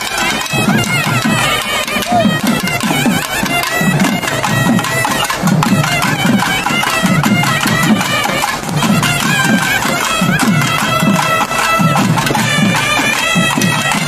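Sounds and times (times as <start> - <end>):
rapid drum beat: 0.0 - 14.0
reed wind instrument melody: 0.0 - 14.0.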